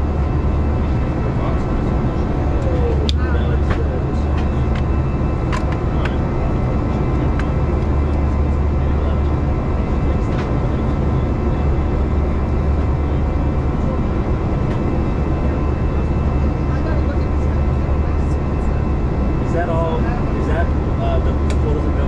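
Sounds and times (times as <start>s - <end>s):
airplane cabin engine hum: 0.0s - 22.0s.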